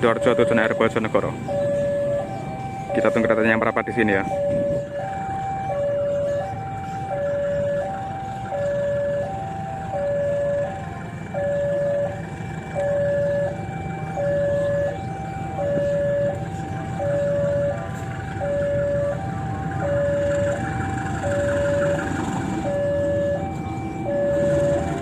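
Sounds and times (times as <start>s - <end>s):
two-tone crossing warning bell: 0.0s - 25.0s.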